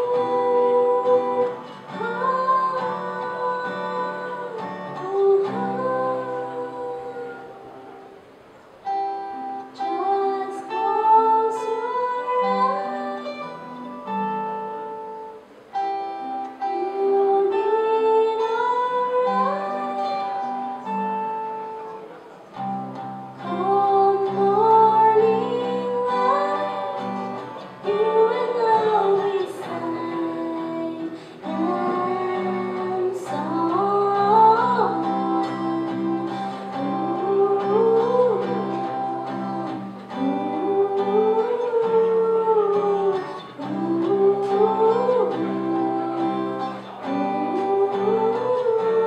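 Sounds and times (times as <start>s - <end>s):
woman singing: 0.0s - 8.0s, 9.6s - 15.0s, 16.2s - 21.3s, 23.3s - 49.0s
acoustic guitar: 0.0s - 49.0s.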